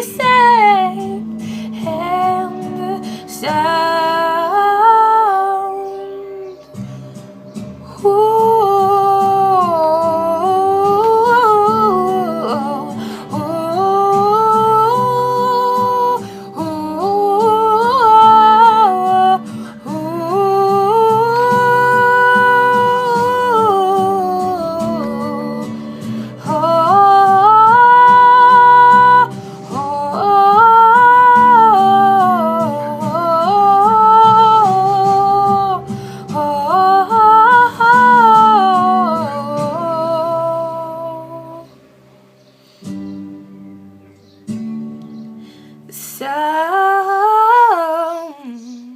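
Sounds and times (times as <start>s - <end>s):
woman humming a melody: 0.0s - 41.8s
acoustic guitar chords: 0.0s - 48.9s.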